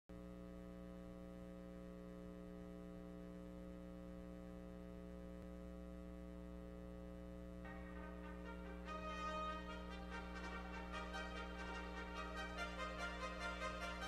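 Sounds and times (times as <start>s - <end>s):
low electrical hum: 0.1s - 14.0s.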